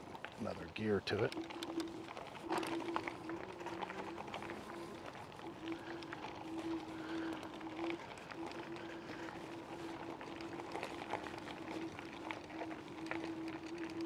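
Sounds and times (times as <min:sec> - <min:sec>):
electric scooter motor whining: 0:00.0 - 0:14.0
gravel crackling under tyres: 0:00.0 - 0:14.0.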